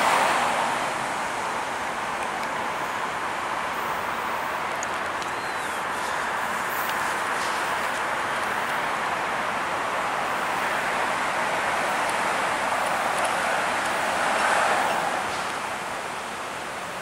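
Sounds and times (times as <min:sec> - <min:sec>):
train rolling on rails: 0:00.0 - 0:17.0.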